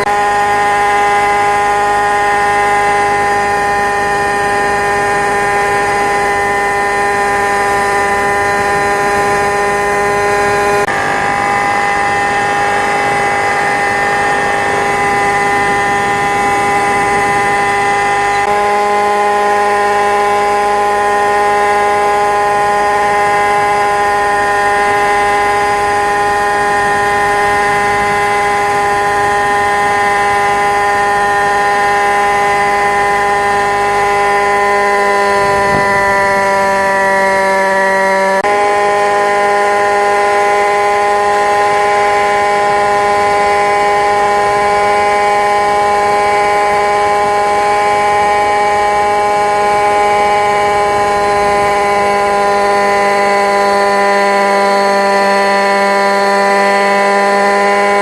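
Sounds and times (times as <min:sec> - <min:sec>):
model helicopter engine whine: 0:00.0 - 0:58.0.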